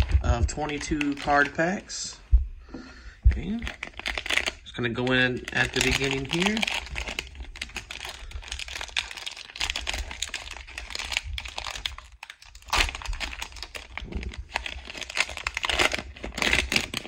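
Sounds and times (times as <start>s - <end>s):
card pack wrapper crinkling: 0.0s - 1.6s, 3.4s - 17.0s.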